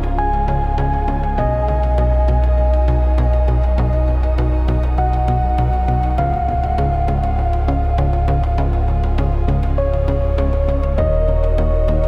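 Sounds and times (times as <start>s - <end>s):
ambient electronic music: 0.0s - 12.0s.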